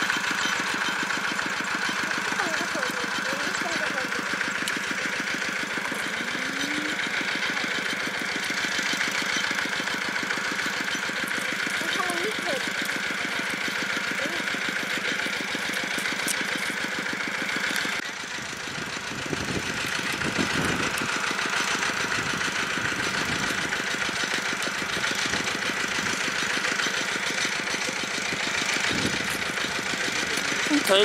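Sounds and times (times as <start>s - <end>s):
water pump engine running: 0.0s - 31.0s.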